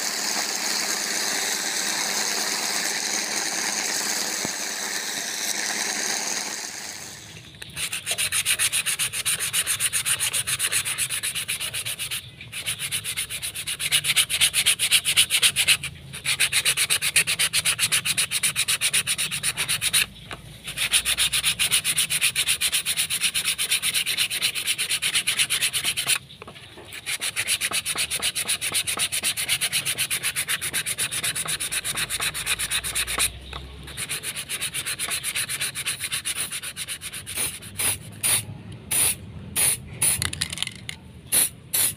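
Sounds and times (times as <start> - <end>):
sandpaper rubbing on steel blade: 0.0 - 7.1, 7.8 - 26.2, 26.9 - 40.3.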